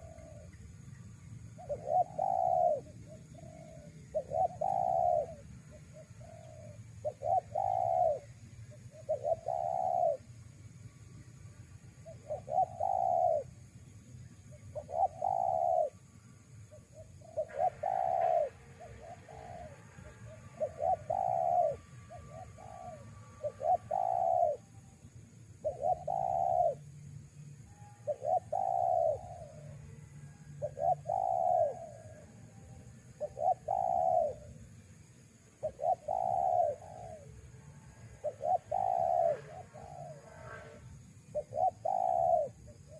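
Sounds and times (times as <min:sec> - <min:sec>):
dove cooing: 0:00.0 - 0:00.6, 0:01.6 - 0:10.3, 0:12.0 - 0:13.5, 0:14.7 - 0:16.0, 0:16.7 - 0:24.7, 0:25.6 - 0:26.9, 0:28.0 - 0:30.0, 0:30.6 - 0:34.7, 0:35.6 - 0:42.9.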